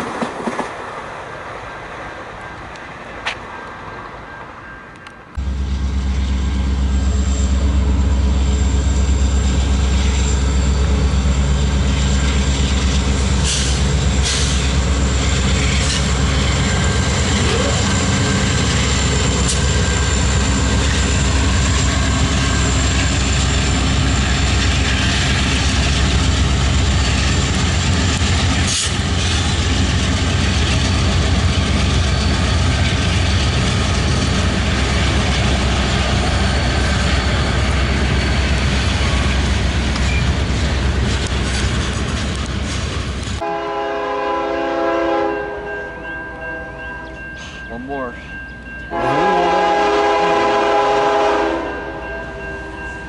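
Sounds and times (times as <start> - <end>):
diesel locomotive engines droning: 0.0 - 53.0.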